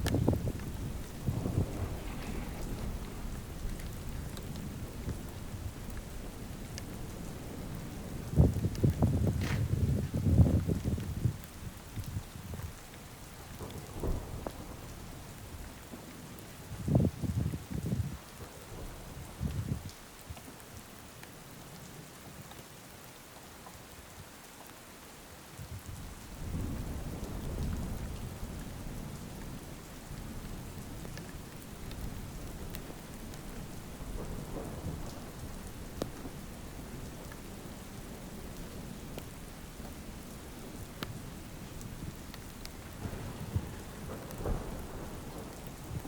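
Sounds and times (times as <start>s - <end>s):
thunder rumbling: 0.0s - 19.9s, 25.8s - 46.0s
rain hissing and pattering: 0.0s - 46.0s.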